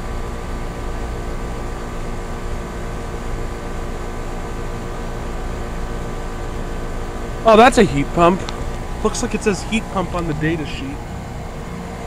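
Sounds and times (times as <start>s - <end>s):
air-conditioning units humming: 0.0s - 12.0s.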